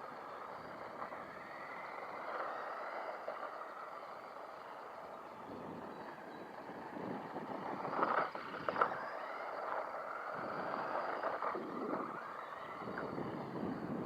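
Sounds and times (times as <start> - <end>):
toy truck tyre and motor noise: 0.0 - 14.0.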